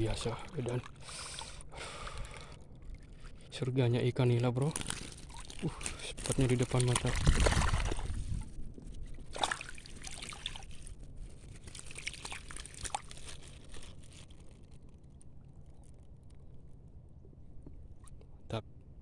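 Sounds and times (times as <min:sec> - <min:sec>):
water splashing and trickling: 0:00.0 - 0:16.9.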